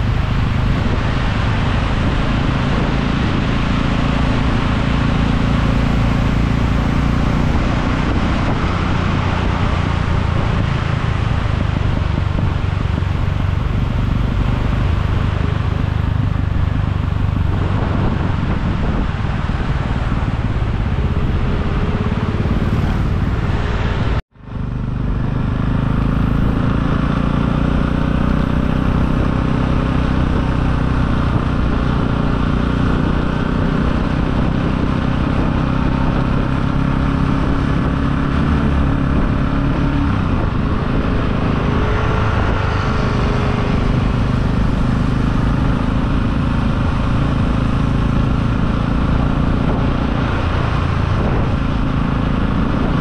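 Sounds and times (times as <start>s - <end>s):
motor scooter engine drone: 0.0s - 53.0s
wind and road noise: 0.0s - 53.0s.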